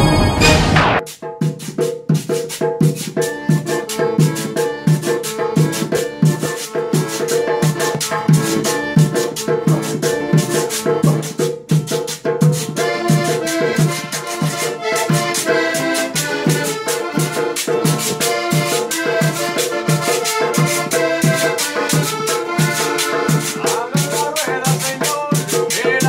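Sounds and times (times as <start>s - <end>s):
button accordion melody: 0.0s - 1.0s, 2.9s - 26.0s
hand percussion: 0.1s - 26.0s
hand drum: 1.0s - 26.0s
strummed acoustic guitar: 3.2s - 26.0s.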